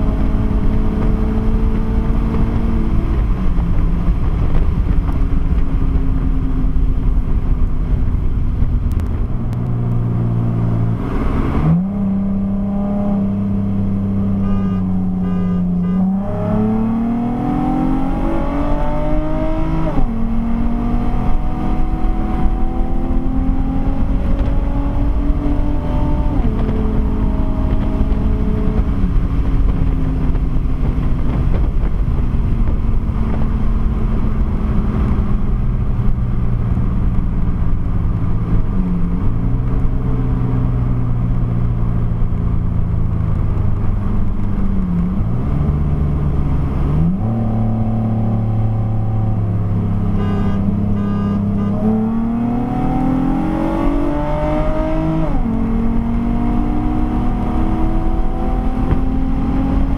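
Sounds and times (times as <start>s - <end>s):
car engine accelerating: 0.0s - 59.9s
road noise: 0.0s - 59.9s.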